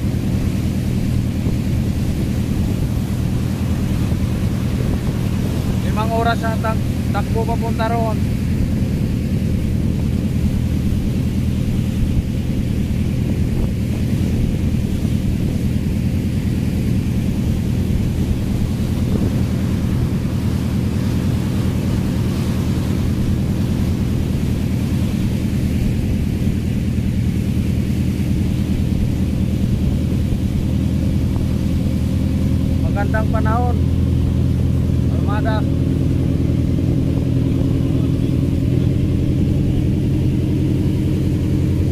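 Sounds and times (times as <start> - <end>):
boat engine droning: 0.0 - 41.9
water rushing past hull: 0.0 - 41.9.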